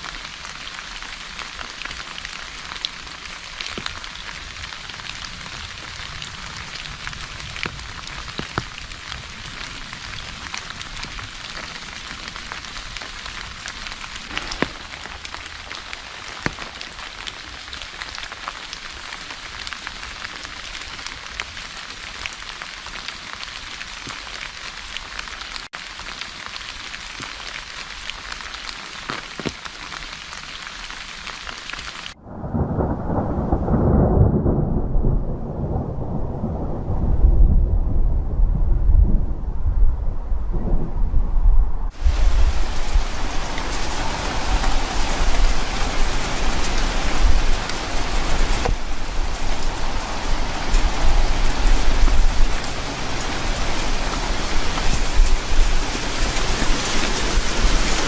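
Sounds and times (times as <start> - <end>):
raindrops ticking close by: 0.0 - 32.2, 41.9 - 58.0
steady rain falling: 0.0 - 41.2, 41.9 - 58.0.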